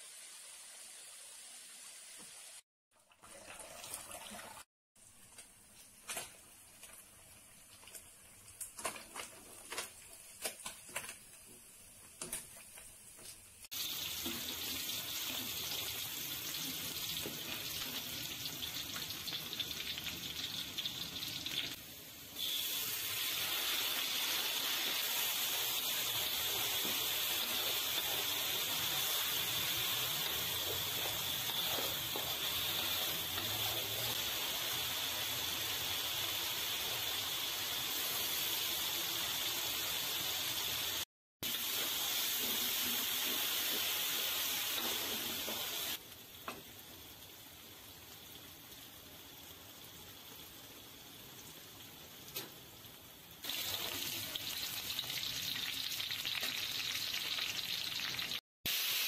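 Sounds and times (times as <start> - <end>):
chili paste sizzling in oil: 5.0 - 59.0.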